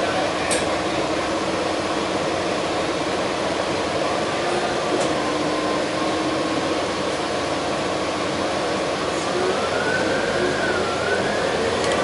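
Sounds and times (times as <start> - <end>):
bus engine and air conditioning hum: 0.0 - 12.0.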